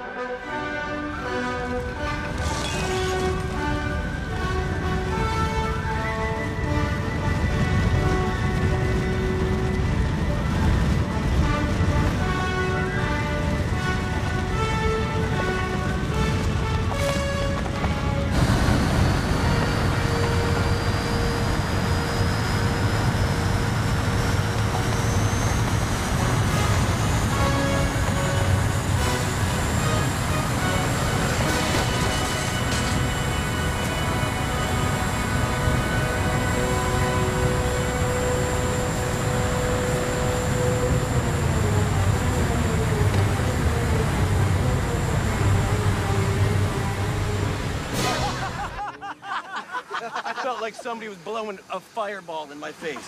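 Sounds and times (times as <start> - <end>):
aircraft engine roaring: 0.0 - 49.1
high engine whine: 0.9 - 49.0.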